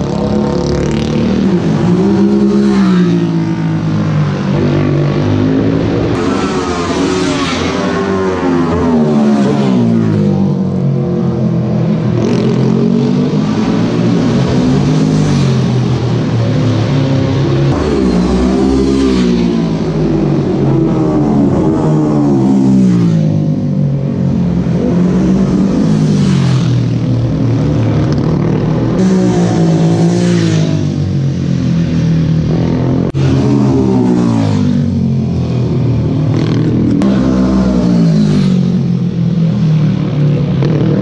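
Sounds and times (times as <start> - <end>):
racing motorcycles accelerating: 0.0 - 41.0.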